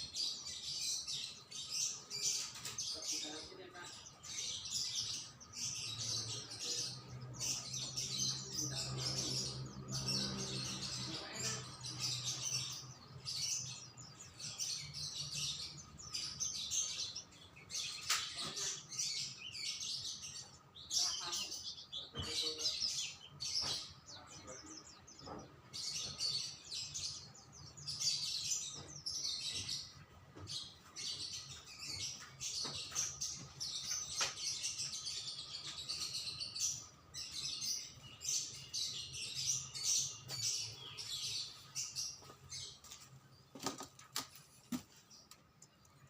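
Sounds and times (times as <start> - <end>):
songbird chirping and trilling: 0.0 - 46.0.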